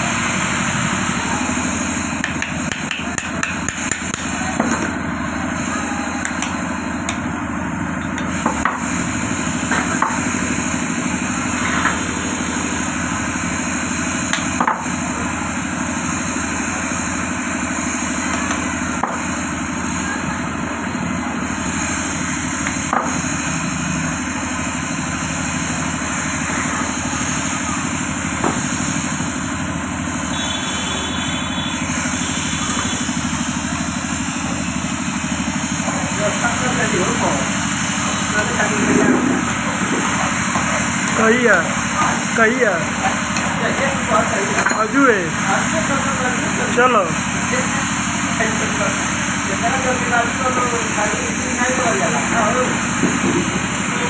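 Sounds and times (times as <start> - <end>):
steady engine-like background noise: 0.0 - 54.0.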